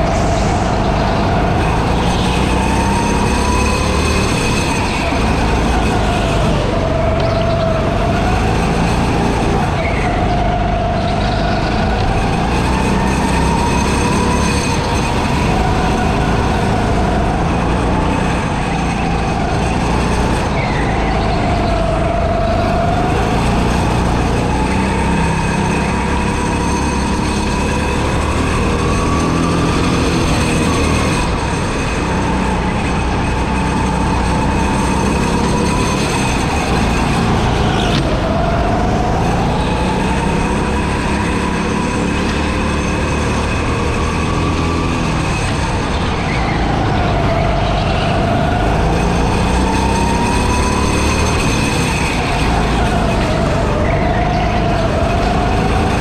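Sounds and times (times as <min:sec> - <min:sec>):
go-kart motor revving: 0:00.0 - 0:56.0.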